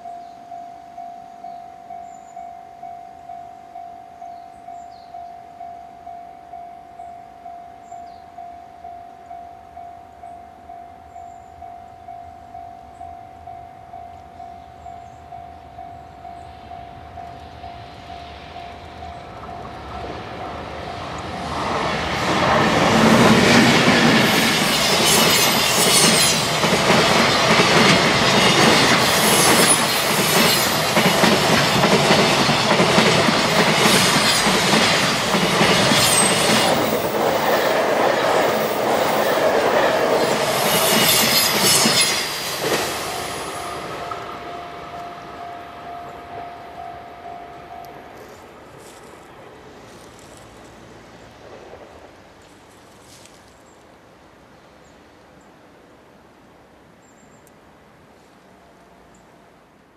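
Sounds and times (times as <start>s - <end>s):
level crossing warning bell: 0.0s - 22.2s, 23.4s - 49.3s
electric train passing: 0.0s - 59.9s
freight train passing: 0.0s - 59.9s.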